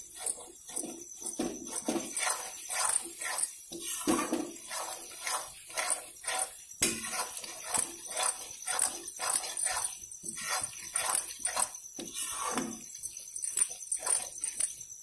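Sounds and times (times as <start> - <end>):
spoon scraping a cooking pan: 0.0 - 14.8.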